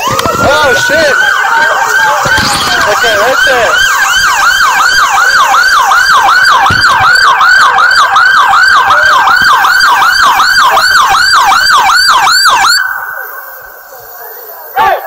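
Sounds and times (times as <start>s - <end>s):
siren yelping: 0.0s - 13.9s.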